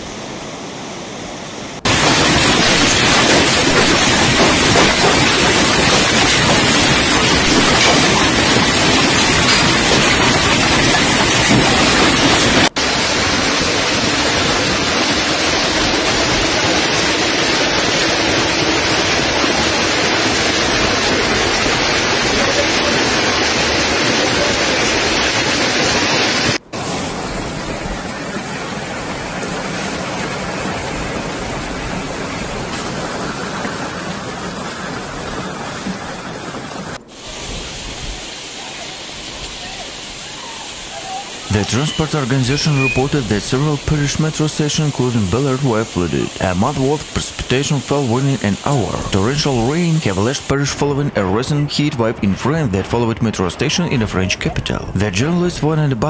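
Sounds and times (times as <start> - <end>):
hail and rain falling: 1.8 - 55.7.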